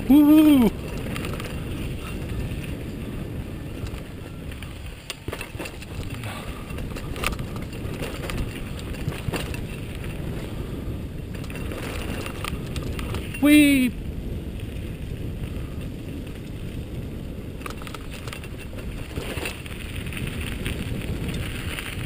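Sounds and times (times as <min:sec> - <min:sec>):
bike rattles and knocks: 0:00.0 - 0:22.0
tyres on dirt: 0:00.0 - 0:22.0
wind buffeting microphone: 0:00.0 - 0:22.0.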